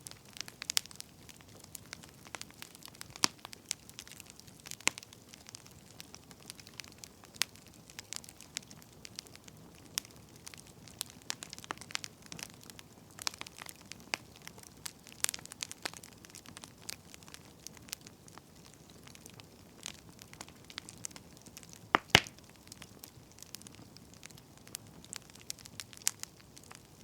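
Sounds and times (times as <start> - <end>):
firewood crackling and popping: 0.0 - 27.0.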